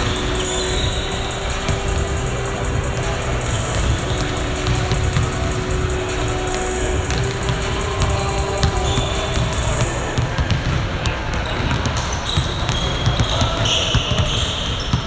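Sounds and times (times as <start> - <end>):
basketballs bouncing on hardwood floor: 0.0 - 15.0
sneaker squeaks: 0.0 - 15.0.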